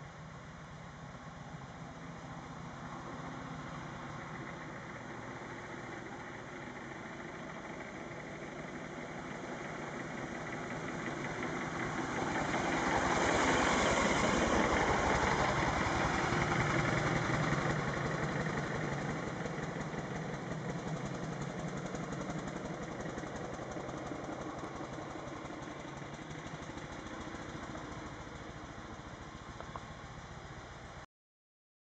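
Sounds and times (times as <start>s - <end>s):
car engine driving past: 1.2s - 31.0s.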